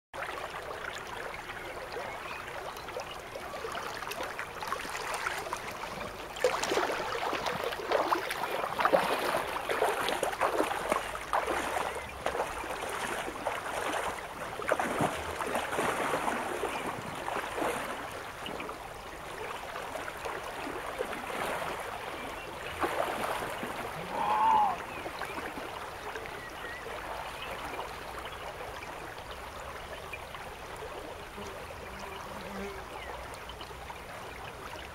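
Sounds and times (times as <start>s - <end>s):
river water rushing: 0.2s - 29.2s.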